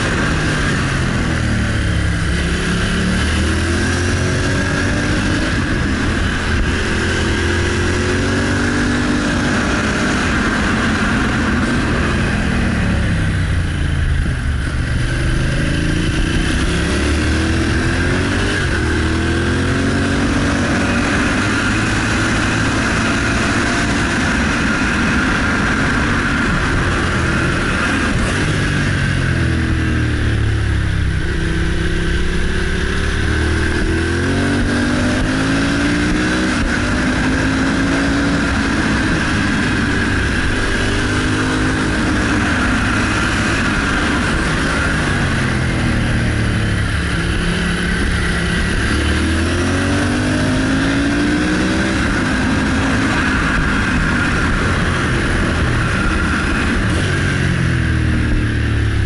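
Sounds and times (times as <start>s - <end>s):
motorcycle engine revving: 0.0s - 59.0s
steady rushing noise: 0.0s - 59.0s.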